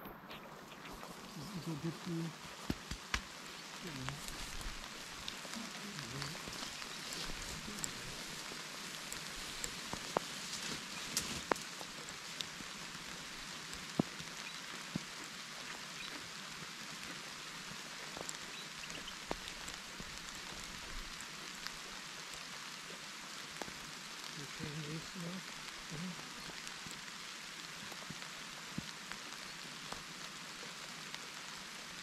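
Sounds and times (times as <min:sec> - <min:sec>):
light rain on grass and leaves: 0:00.0 - 0:32.0.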